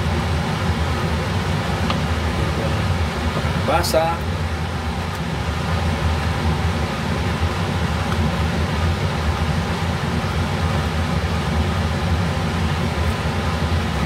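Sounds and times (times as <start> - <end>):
kitchen exhaust fan humming: 0.0 - 14.0.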